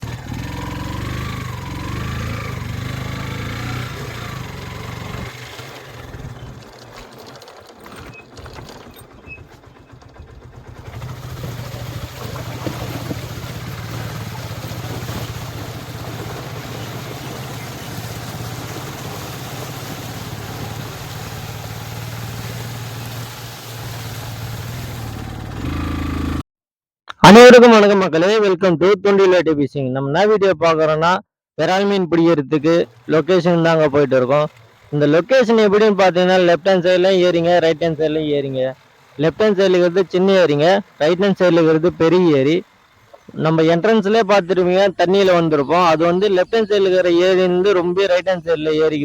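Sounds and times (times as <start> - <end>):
vehicle engine running: 0.0 - 26.4, 32.6 - 46.8.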